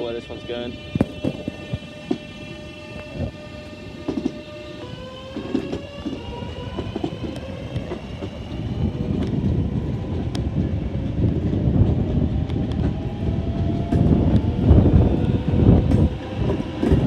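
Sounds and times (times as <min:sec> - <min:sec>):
train traction motor whine: 0:00.0 - 0:17.0
train wheels rumbling on rails: 0:00.0 - 0:17.0.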